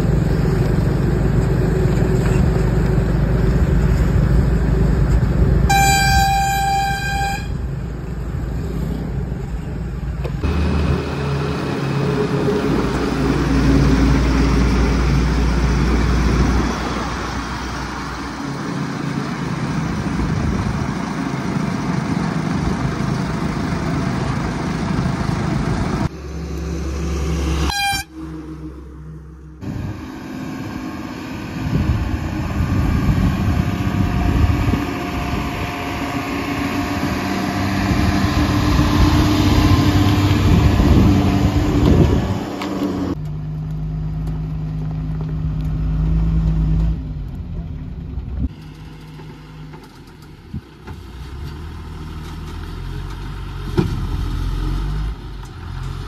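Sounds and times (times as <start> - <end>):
tyre and road noise: 0.0 - 56.0
diesel truck engine running: 7.6 - 27.5, 28.1 - 56.0.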